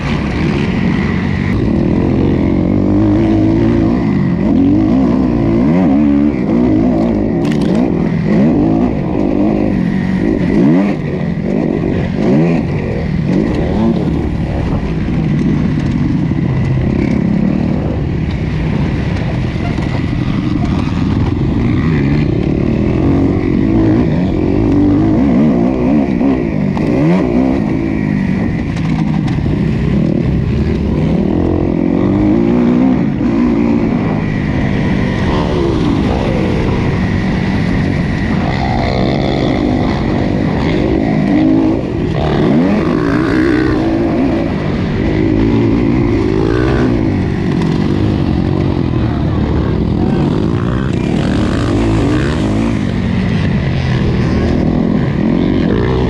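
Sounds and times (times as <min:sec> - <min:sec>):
motocross bike engine revving: 0:00.0 - 0:56.0
other motorbike engines: 0:00.0 - 0:56.0.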